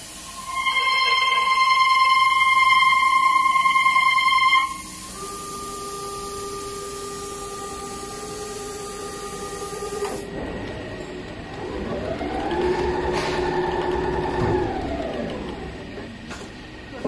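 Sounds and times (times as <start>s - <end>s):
machine motors whining: 0.0s - 17.0s.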